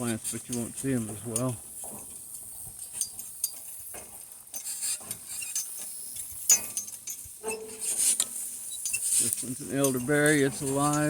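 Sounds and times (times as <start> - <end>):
grass rustling: 0.0 - 11.0
harness hardware clinking: 0.0 - 11.0.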